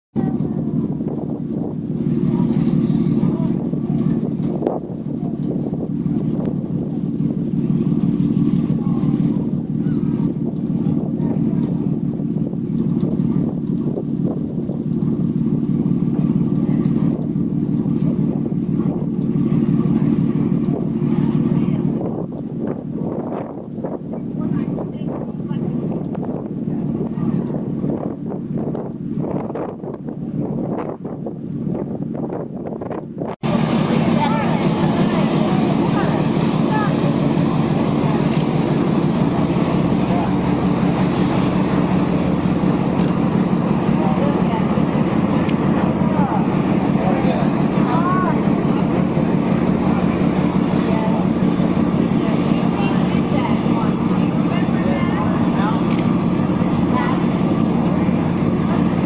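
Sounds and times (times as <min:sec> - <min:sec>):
boat engine droning: 0:00.1 - 0:59.0
wind buffeting microphone: 0:00.1 - 0:59.0.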